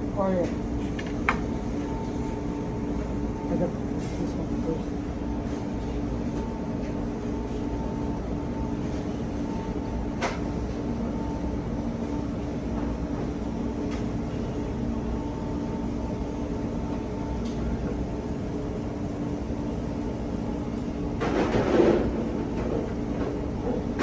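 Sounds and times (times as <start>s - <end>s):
kitchen machinery humming: 0.0s - 24.0s.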